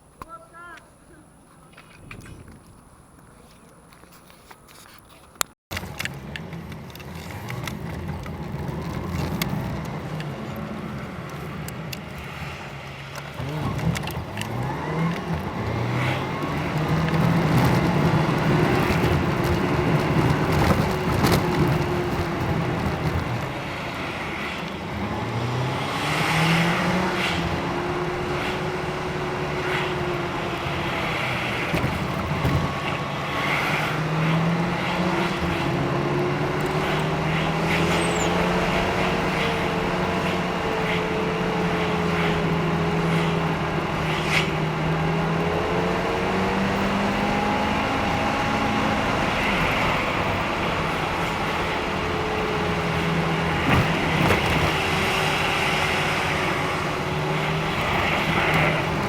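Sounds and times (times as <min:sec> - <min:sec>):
motor revving up and down: 0:06.1 - 0:59.0.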